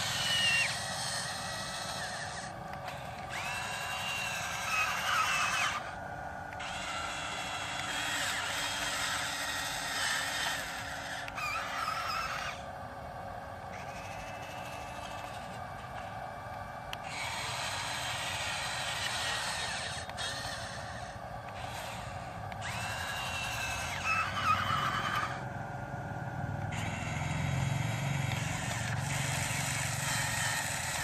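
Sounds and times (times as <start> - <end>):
small electric motors whining: 0.0 - 31.0
steady hum: 0.0 - 31.0.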